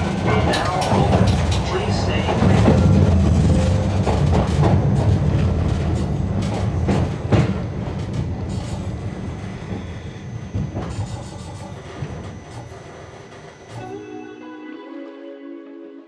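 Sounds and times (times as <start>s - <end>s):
wheels clicking over rail joints: 0.0s - 13.9s
train rumbling on rails: 0.0s - 14.1s.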